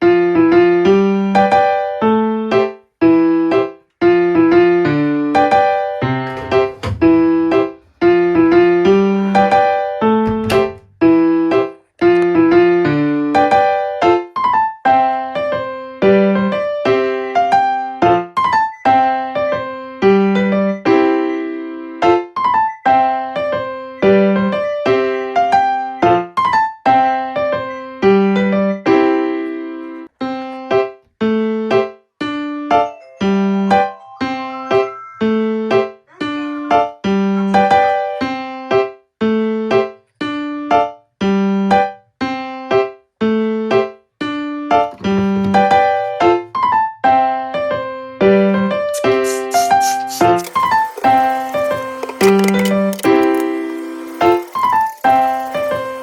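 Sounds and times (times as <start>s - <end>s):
piano melody: 0.0s - 56.0s.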